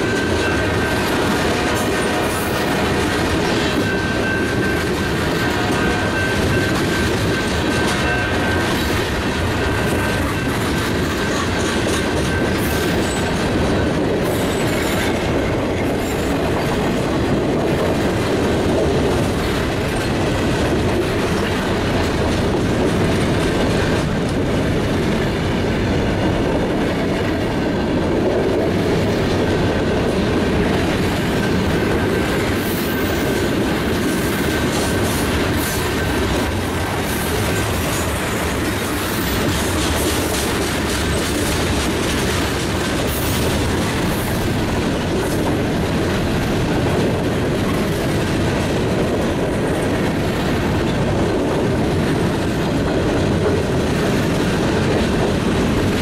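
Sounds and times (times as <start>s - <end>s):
freight train cars rolling past: 0.0s - 56.0s
wheels clickety-clack over rail joints: 0.0s - 56.0s.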